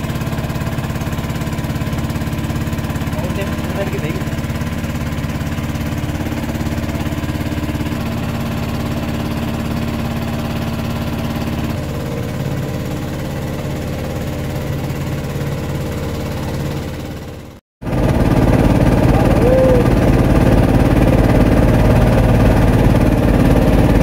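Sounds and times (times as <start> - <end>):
motorboat engine running: 0.0 - 24.0.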